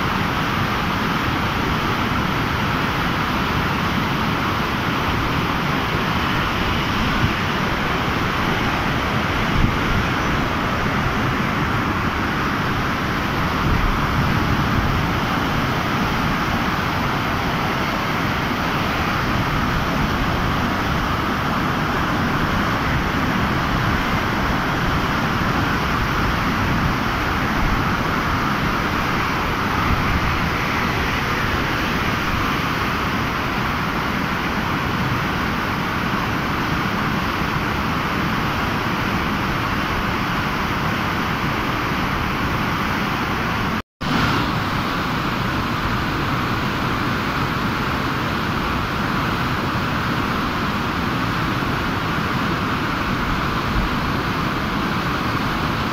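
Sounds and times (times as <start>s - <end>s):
floodwater rushing through gates: 0.0s - 55.9s.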